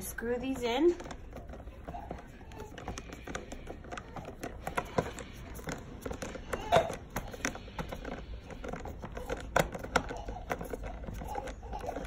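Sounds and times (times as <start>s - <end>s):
screwdriver clicking and scraping: 0.4s - 12.0s.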